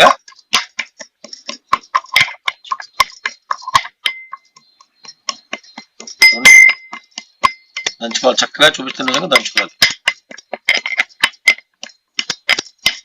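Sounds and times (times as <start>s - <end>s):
pestle pounding peppercorns in mortar: 0.0s - 13.0s.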